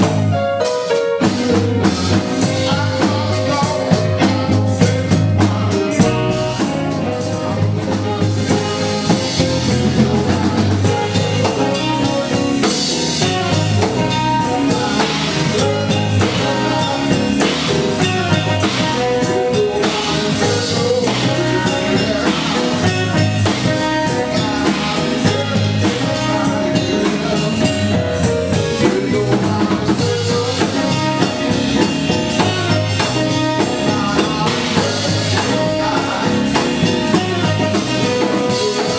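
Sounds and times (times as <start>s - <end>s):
drum kit with rimshots: 0.0s - 38.9s
live band music: 0.0s - 38.9s.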